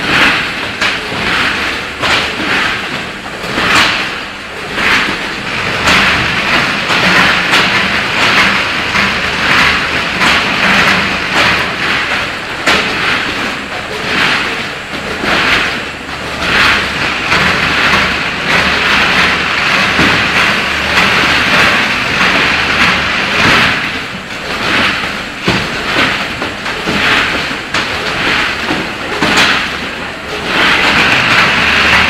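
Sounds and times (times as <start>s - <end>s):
packaging machine clatter: 0.0s - 32.0s.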